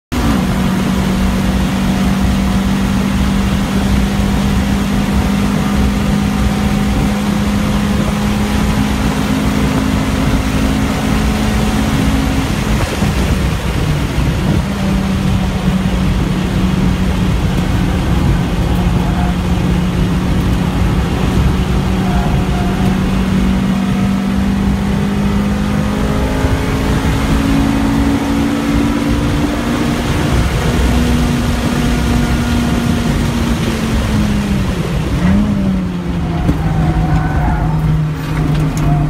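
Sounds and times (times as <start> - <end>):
car engine at high revs: 0.1 - 39.0
wind and road noise: 0.1 - 39.0.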